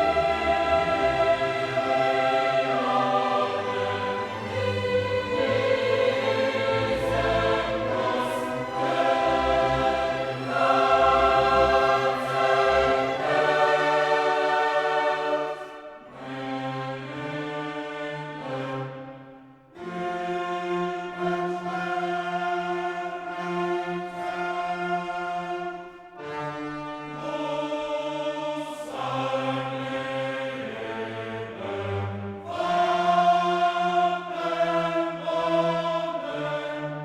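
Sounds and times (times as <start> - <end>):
choir with orchestra: 0.0 - 37.0.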